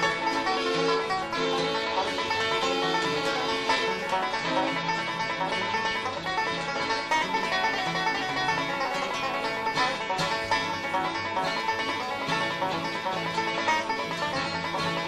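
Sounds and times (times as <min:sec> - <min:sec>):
lively plucked-string bluegrass tune: 0:00.0 - 0:15.0.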